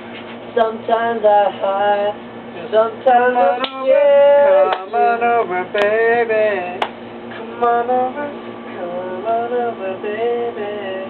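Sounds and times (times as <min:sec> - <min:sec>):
pop music with singing: 0:00.6 - 0:11.0.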